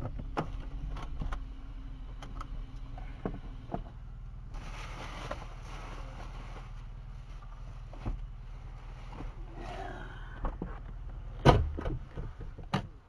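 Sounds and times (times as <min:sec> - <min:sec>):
idling car engine hum: 0:00.0 - 0:13.0.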